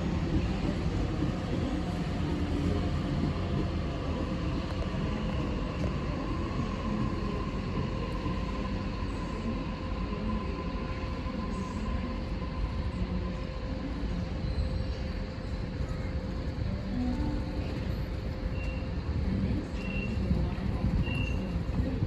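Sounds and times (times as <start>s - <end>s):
electric train low rumble: 0.0s - 22.0s.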